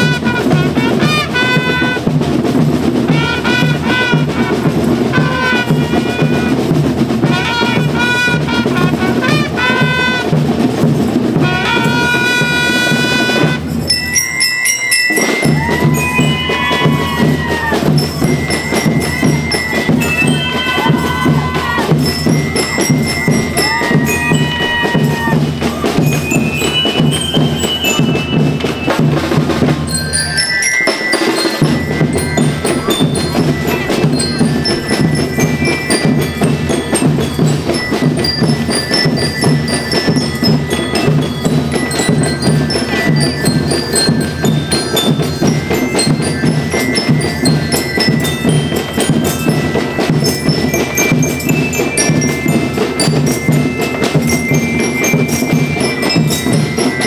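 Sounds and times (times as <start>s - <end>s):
glockenspiel melody: 0.0s - 57.0s
steady drum beat: 0.0s - 57.0s.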